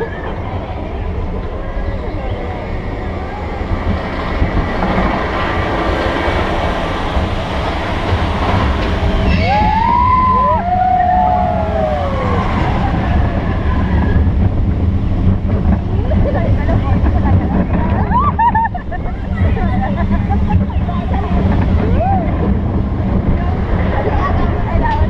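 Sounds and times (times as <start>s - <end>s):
roller coaster rumbling on track: 0.0s - 25.0s.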